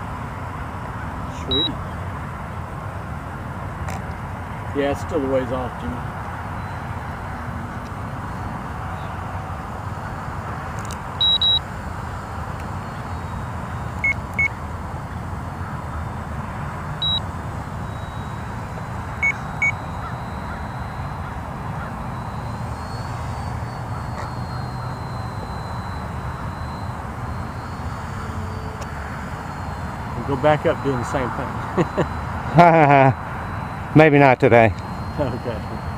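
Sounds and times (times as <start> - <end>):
low outdoor rush: 0.0 - 35.9
short electronic beeps: 1.3 - 1.8, 4.9 - 10.3, 11.0 - 15.6, 16.7 - 35.9.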